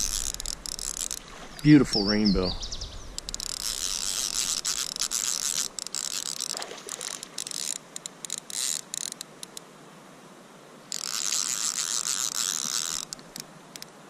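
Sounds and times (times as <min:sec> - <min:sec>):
fishing reel drag buzzing: 0:00.0 - 0:01.7, 0:02.6 - 0:09.6, 0:10.9 - 0:13.9.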